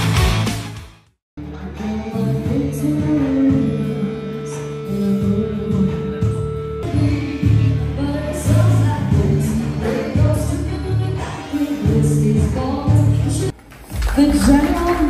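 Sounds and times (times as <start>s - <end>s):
person singing: 1.4s - 13.5s.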